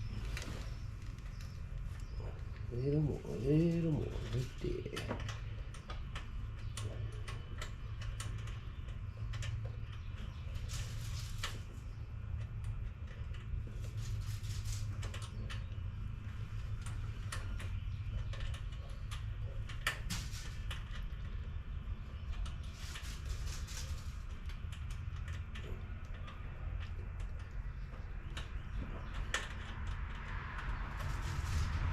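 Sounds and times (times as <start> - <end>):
steady low hum: 0.0 - 31.9
tools clicking on engine parts: 3.6 - 11.7, 12.3 - 31.9.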